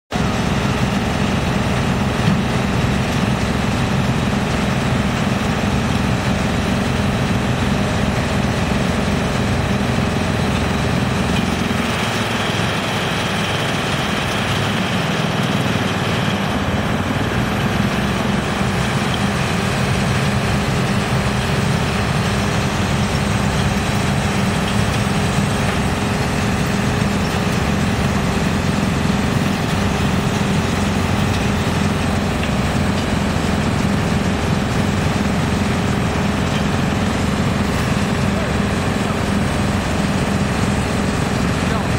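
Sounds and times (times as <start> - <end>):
excavator engine: 0.1 - 41.9
wood chipper chipping wood: 0.2 - 41.9.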